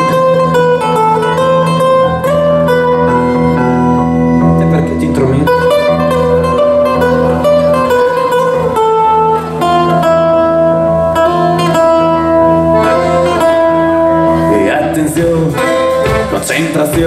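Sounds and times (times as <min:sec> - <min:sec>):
accordion held notes: 0:00.0 - 0:17.0
strummed acoustic guitars: 0:00.0 - 0:17.0.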